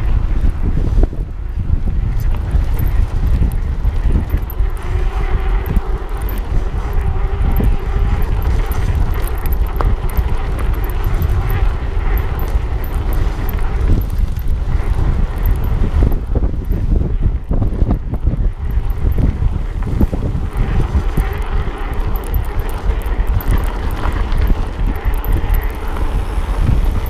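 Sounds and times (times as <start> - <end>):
faint steady whine: 0.0 - 27.0
wind buffeting microphone: 0.0 - 27.0
tyres rumbling on gravel: 2.0 - 16.4, 18.5 - 27.0.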